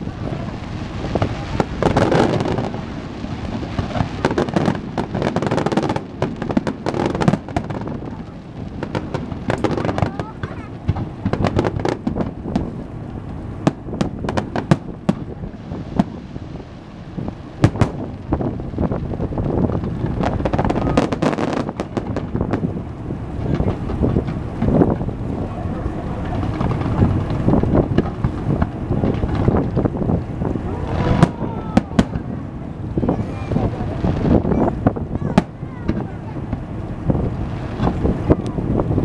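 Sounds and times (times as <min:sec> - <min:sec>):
fireworks popping and cracking: 0:00.0 - 0:39.0
wind buffeting microphone: 0:00.0 - 0:39.0.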